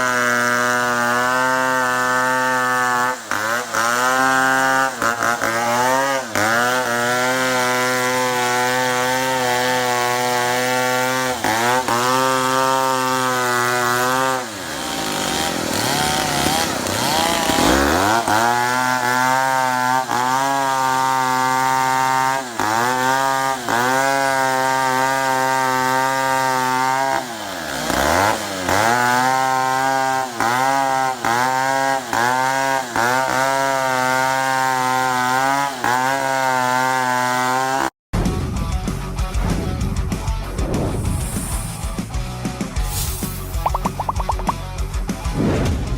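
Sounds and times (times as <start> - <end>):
chainsaw cutting wood: 0.0 - 38.0, 41.0 - 44.9.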